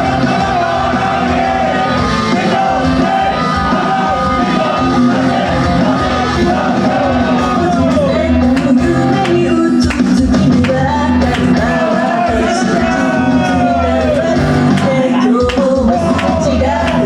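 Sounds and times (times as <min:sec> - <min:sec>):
amplified pop band: 0:00.0 - 0:17.0
person singing: 0:00.0 - 0:17.0.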